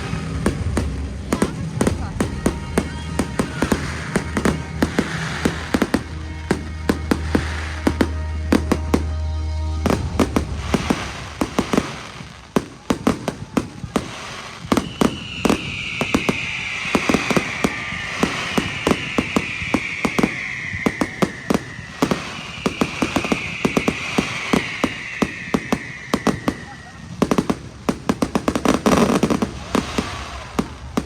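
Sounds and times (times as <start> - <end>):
falling firework whistles: 0.0 - 31.0
fireworks bangs and crackling: 0.0 - 31.0
music: 0.0 - 31.0.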